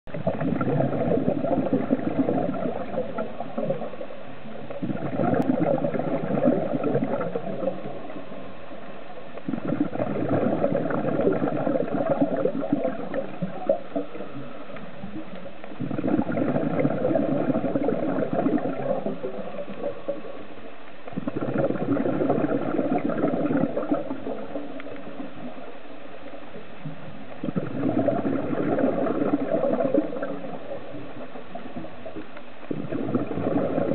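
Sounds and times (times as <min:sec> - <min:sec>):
underwater bubbles gurgling: 0:00.1 - 0:33.9.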